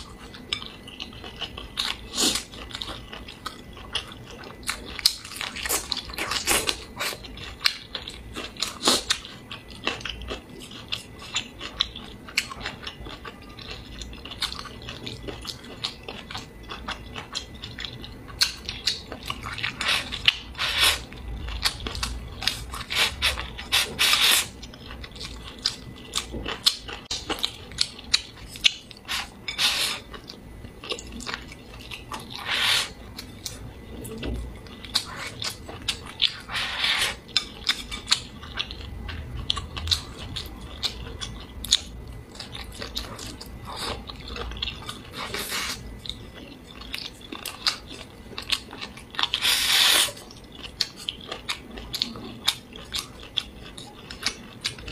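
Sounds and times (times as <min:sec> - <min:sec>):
wet chewing with crunches: 0:00.0 - 0:54.9.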